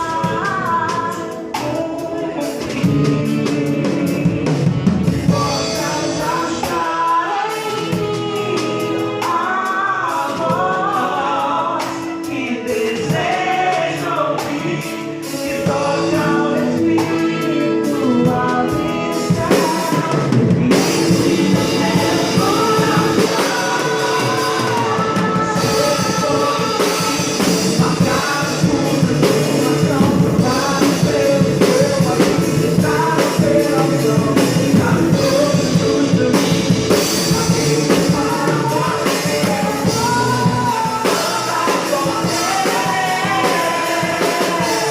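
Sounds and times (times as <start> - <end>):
band playing: 0.0 - 44.9
drum kit: 0.0 - 44.9
people singing: 0.0 - 44.9.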